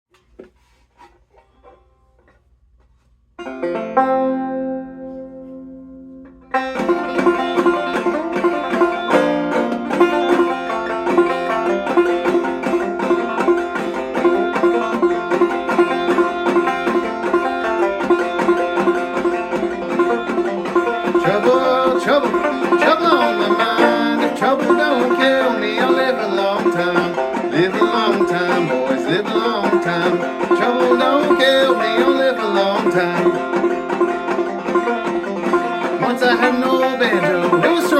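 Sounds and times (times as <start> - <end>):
banjo playing: 0.1 - 37.9.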